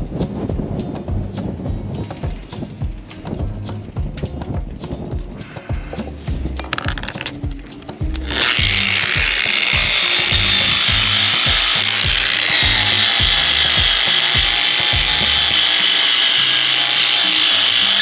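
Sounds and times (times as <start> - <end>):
background music with steady beat: 0.0 - 18.0
angle grinder sanding: 2.0 - 18.0.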